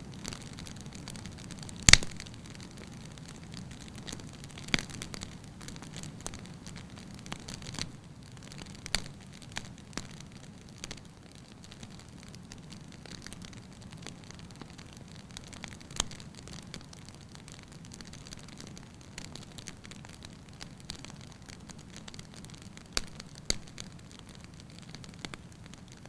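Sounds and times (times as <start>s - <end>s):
logs crackling and popping: 0.0s - 26.0s.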